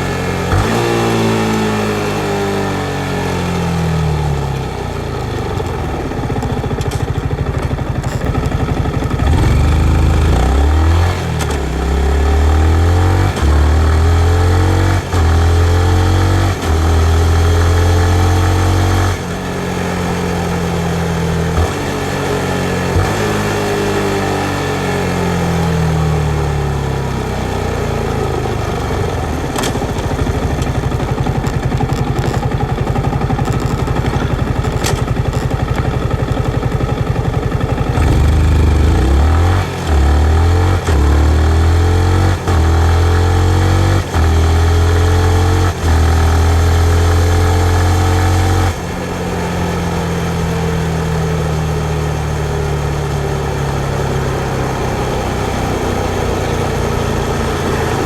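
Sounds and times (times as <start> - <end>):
motorcycle engine revving: 0.0 - 58.0
quick gear upshifts: 0.0 - 58.0.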